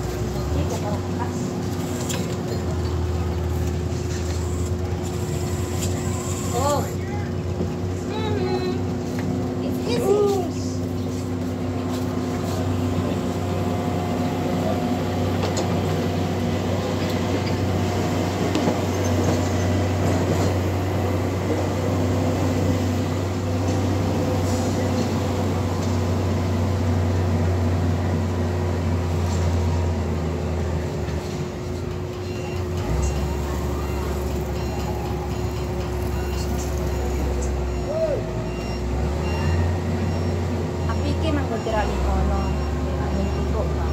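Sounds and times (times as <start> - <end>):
heavy diesel engine droning: 0.0 - 43.9
road vehicles passing: 0.0 - 43.9.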